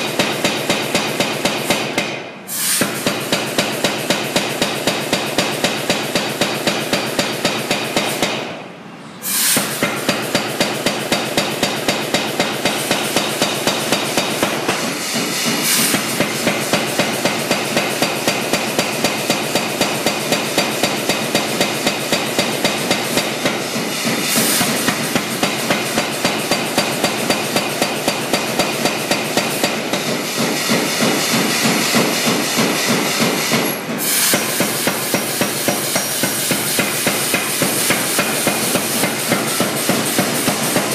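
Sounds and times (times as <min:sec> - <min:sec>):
power hammer heavy blows: 0:00.0 - 0:08.6, 0:09.2 - 0:40.9
machine running noise: 0:00.0 - 0:40.9.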